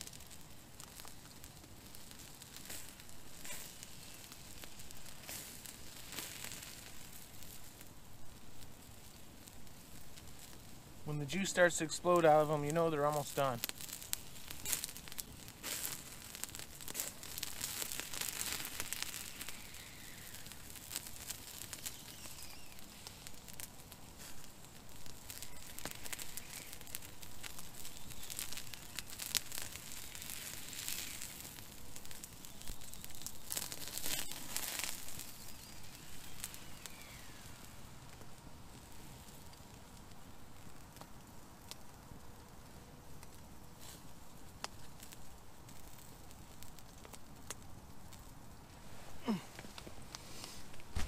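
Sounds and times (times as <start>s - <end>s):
wood fire crackling and popping: 0.0s - 51.0s.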